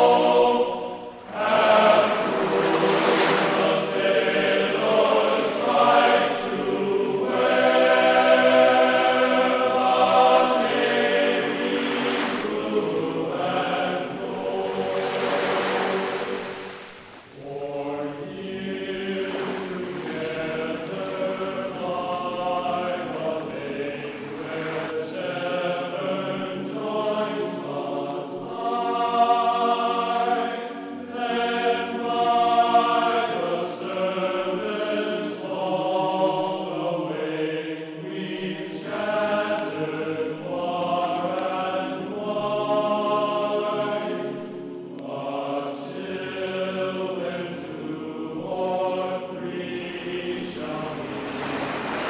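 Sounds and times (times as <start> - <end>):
choir singing sustained chords: 0.0 - 52.0.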